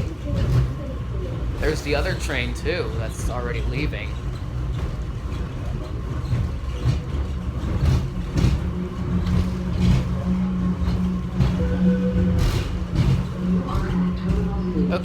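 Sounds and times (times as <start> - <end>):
steady low hum: 0.0 - 15.0
train low rumble: 0.0 - 15.0.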